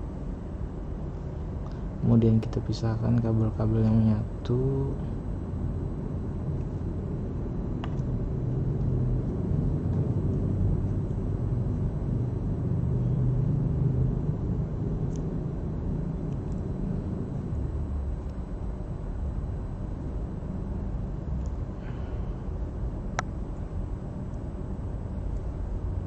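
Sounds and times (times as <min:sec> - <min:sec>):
low motor rumble: 0:00.0 - 0:26.0.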